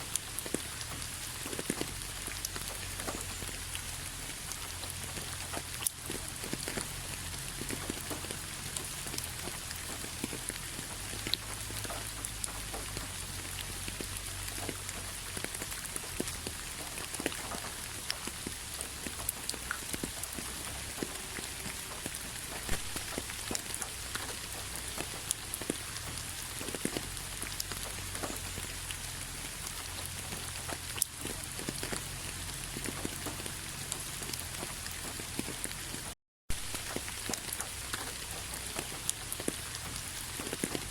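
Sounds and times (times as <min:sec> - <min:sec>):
raindrops ticking: 0:00.0 - 0:40.9
steady rain hiss: 0:00.0 - 0:40.9.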